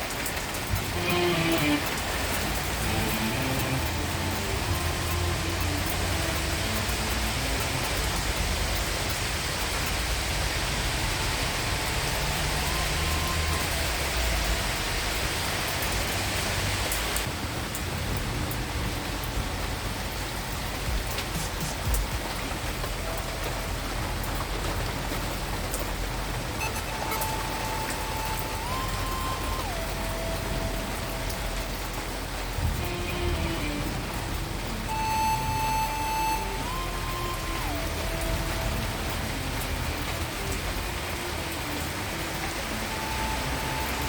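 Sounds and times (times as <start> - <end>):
steady rain hissing: 0.0 - 44.0.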